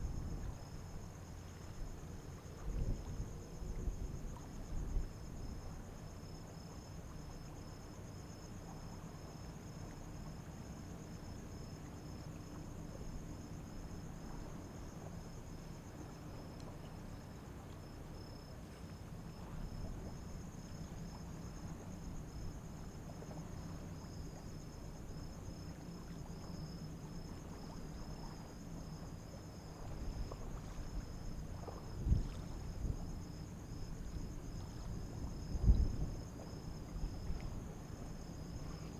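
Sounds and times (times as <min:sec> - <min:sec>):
continuous low hum: 0:00.0 - 0:38.9
insects trilling: 0:00.0 - 0:38.9.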